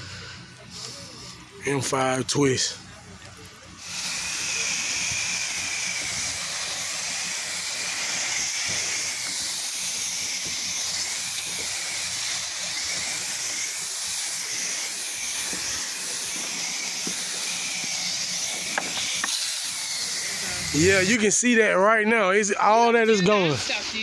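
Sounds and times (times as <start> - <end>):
pressure washer water jet hissing: 0.0 - 2.9, 3.6 - 21.6, 22.8 - 24.0.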